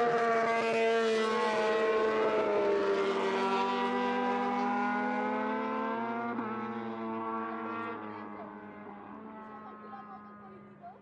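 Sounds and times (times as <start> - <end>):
race bike engine at high revs: 0.0 - 11.0.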